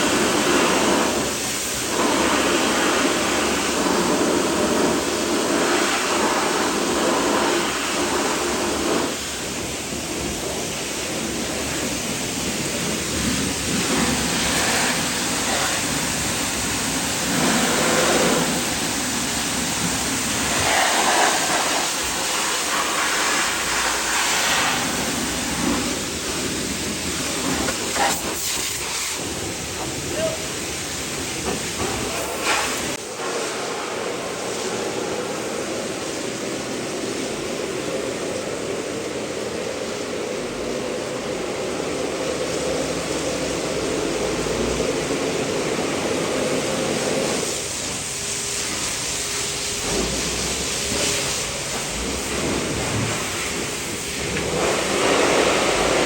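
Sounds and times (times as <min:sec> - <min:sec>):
pressure washer spraying: 0:00.0 - 0:38.8, 0:42.2 - 0:56.0.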